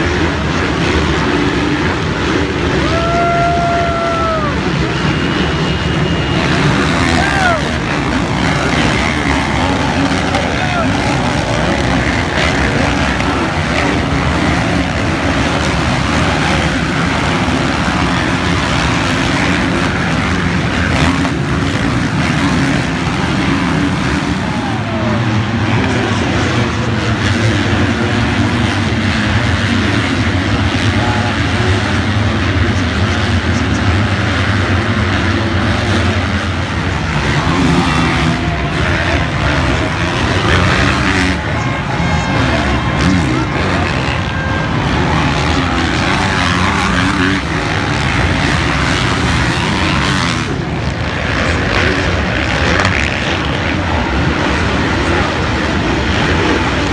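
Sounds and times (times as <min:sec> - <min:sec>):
motocross bike engines droning: 0:00.0 - 0:56.9.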